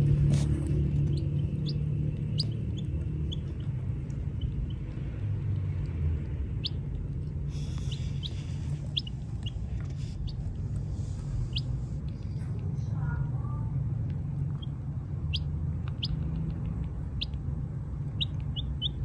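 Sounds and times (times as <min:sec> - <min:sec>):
baby chicks peeping: 0:00.0 - 0:13.3, 0:13.9 - 0:19.0
steady low rumble: 0:00.0 - 0:19.0.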